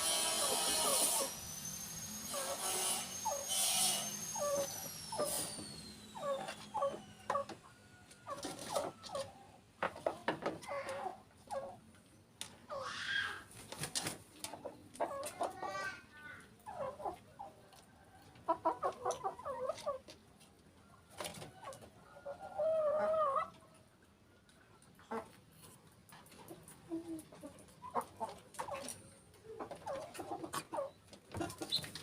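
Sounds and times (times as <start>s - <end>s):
chickens clucking: 0.0s - 1.3s, 4.3s - 32.0s.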